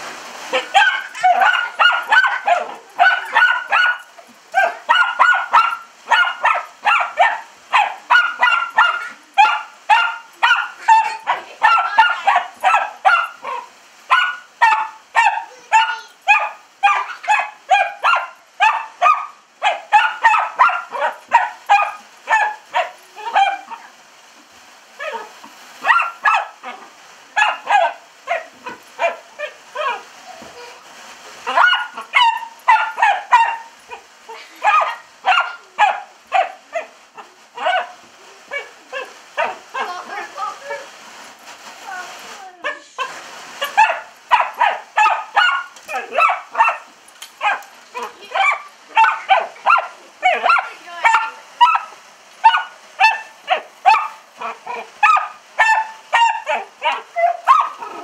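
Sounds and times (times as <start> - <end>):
dog barking excitedly: 0.5 - 24.0, 25.0 - 30.1, 31.4 - 41.0, 42.6 - 58.0.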